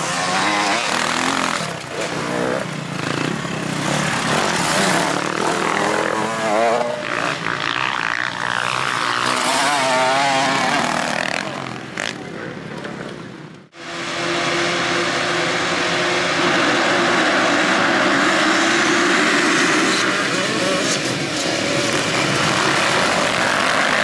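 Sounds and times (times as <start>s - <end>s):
motocross bikes racing: 0.0s - 24.0s.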